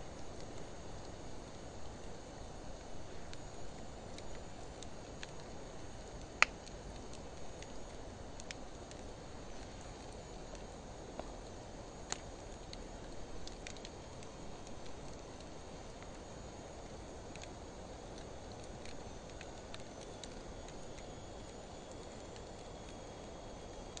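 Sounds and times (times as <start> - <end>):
campfire flames crackling: 0.0 - 24.0.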